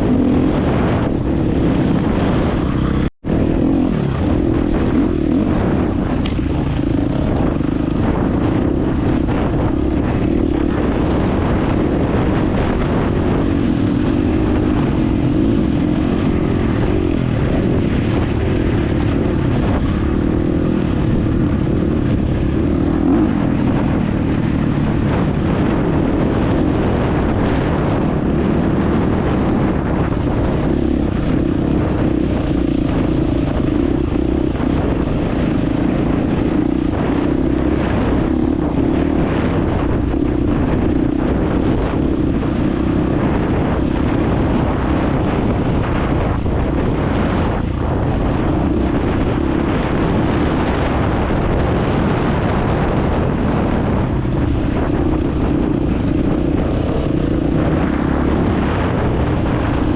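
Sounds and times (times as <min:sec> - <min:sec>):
dirt bike engine running: 0:00.0 - 0:59.9
wind noise on microphone: 0:00.0 - 0:59.9.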